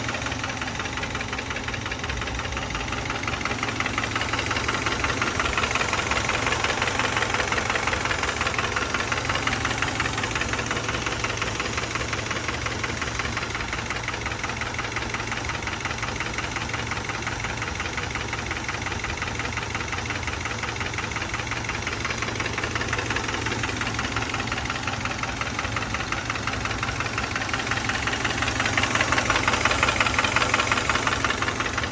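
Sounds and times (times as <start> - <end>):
car engine idling: 0.0 - 31.9
fast engine knocking: 0.0 - 31.9.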